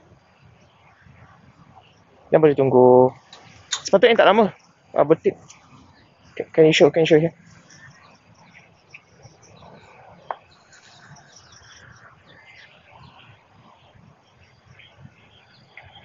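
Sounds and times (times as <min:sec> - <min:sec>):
bird chirps: 0:00.0 - 0:16.0
insect calls: 0:00.0 - 0:16.0.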